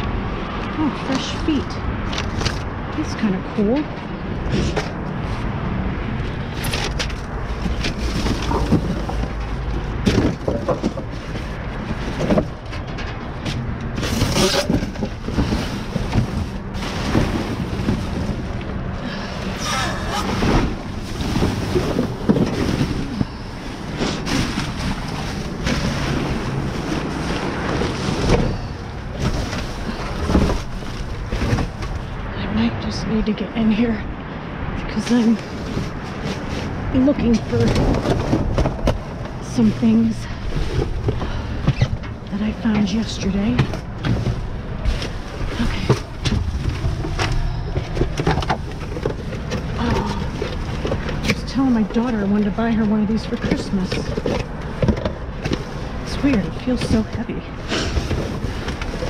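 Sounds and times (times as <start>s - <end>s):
plastic bags rustling and knocking: 6.4s - 32.2s, 35.0s - 59.0s.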